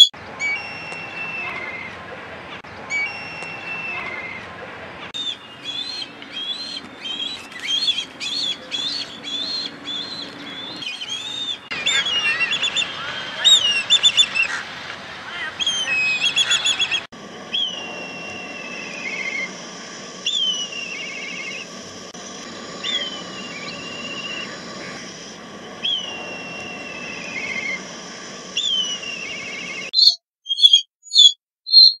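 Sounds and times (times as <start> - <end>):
kite whistling call: 0.0 - 2.0, 2.8 - 4.5, 5.1 - 30.7.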